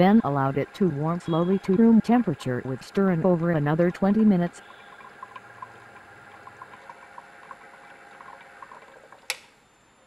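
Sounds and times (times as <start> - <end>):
magnetic stirrer humming: 0.0 - 10.0.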